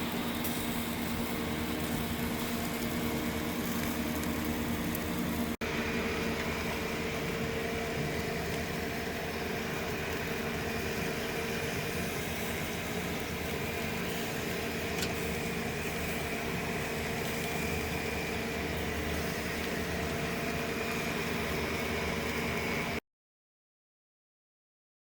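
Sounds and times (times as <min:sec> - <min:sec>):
mechanical hum with high whine: 0:00.0 - 0:23.0.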